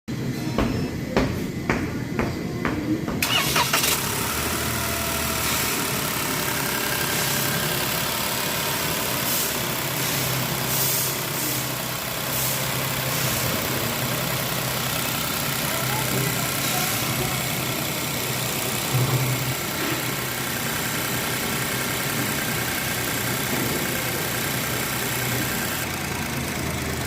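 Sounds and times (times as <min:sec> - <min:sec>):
car engine starting and idling: 0:03.2 - 0:27.0.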